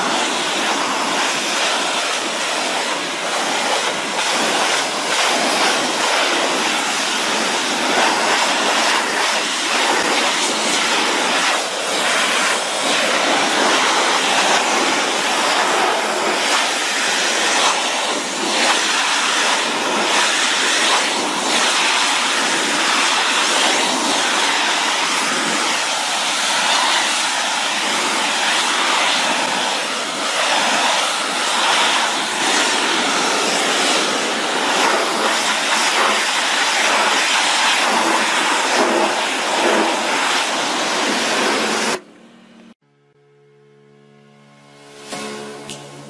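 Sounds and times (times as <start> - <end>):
pressure washer spray hissing: 0.0 - 42.0.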